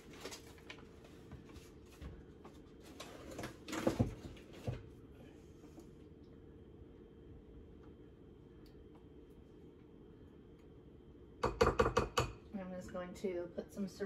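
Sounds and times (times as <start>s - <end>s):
faint low hum: 0.0s - 11.7s.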